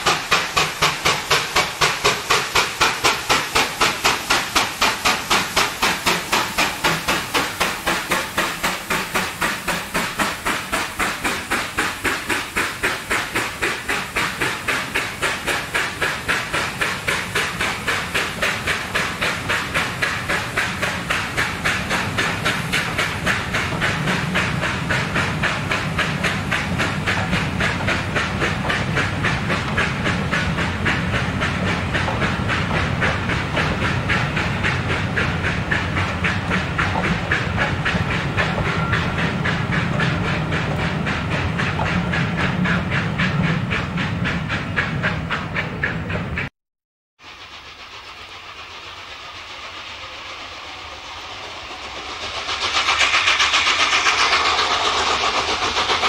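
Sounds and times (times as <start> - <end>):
steam train passing: 0.0 - 46.5, 47.2 - 56.0.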